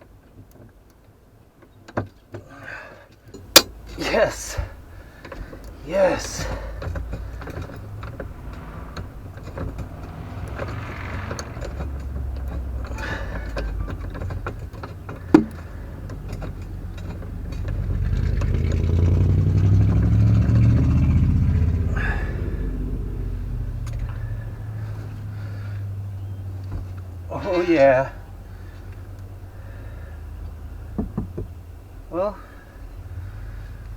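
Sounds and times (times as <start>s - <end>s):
low vehicle rumble: 3.4s - 33.9s.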